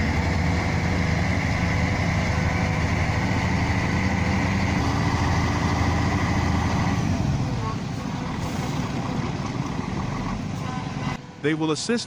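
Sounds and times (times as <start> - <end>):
heavy diesel engine running: 0.0 - 11.2.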